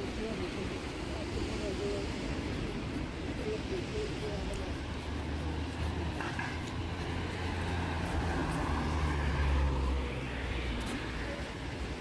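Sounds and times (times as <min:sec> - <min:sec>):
outdoor background noise: 0:00.0 - 0:12.0
engine droning: 0:02.1 - 0:12.0.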